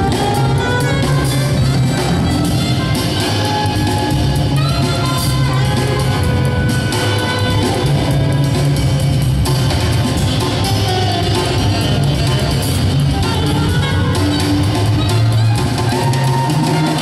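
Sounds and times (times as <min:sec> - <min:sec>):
drum kit with cymbals: 0:00.0 - 0:17.0
saxophone: 0:00.0 - 0:17.0.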